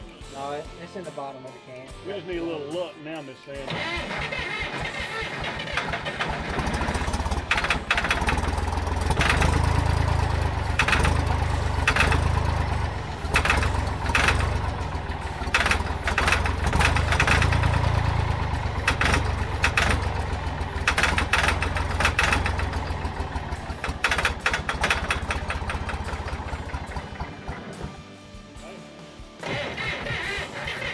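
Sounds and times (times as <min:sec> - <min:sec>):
engine pops: 0:03.6 - 0:28.0, 0:29.4 - 0:30.9
bulldozer engine starting roughly: 0:03.6 - 0:28.1, 0:29.4 - 0:30.9.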